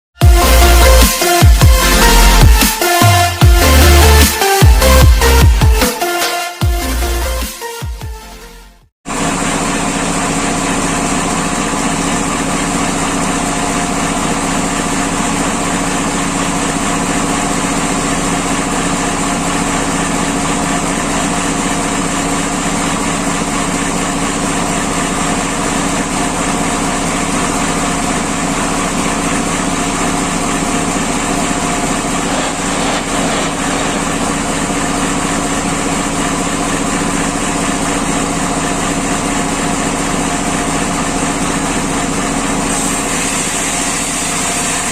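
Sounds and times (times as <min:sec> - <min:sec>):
sawmill machine humming: 0:00.2 - 0:07.6, 0:09.1 - 0:44.9.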